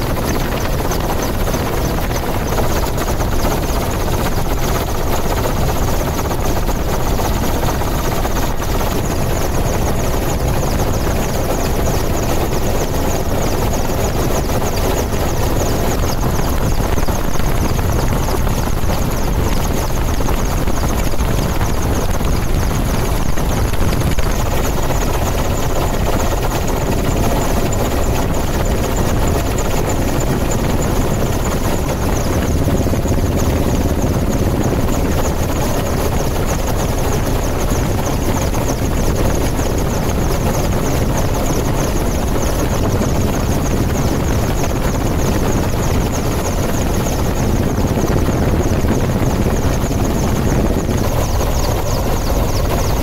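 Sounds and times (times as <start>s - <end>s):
helicopter rotor and engine: 0.0s - 53.0s.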